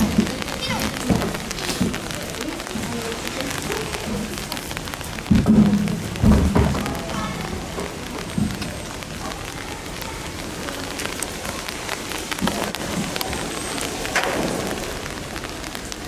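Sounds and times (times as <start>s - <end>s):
drops ticking on hard surfaces: 0.0s - 16.0s
steady rain falling: 0.0s - 16.0s.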